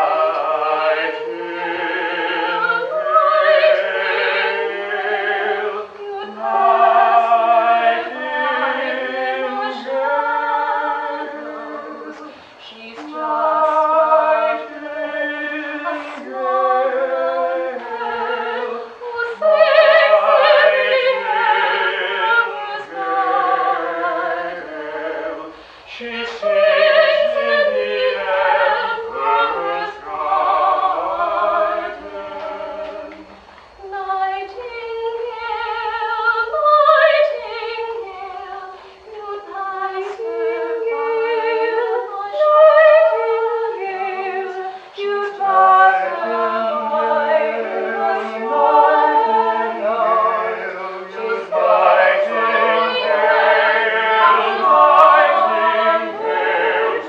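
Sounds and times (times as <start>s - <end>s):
mixed voices singing a round: 0.0s - 57.0s.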